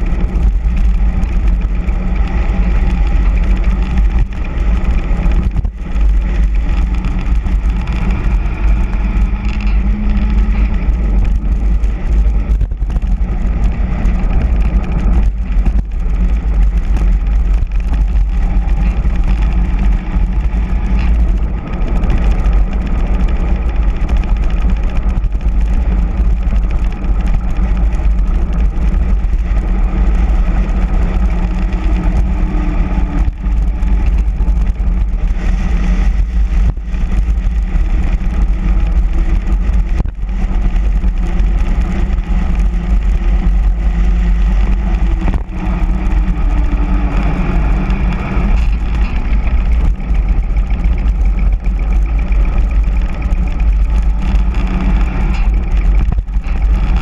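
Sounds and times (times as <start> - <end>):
tyres rolling on asphalt: 0.0 - 57.0
wind buffeting microphone: 0.0 - 57.0.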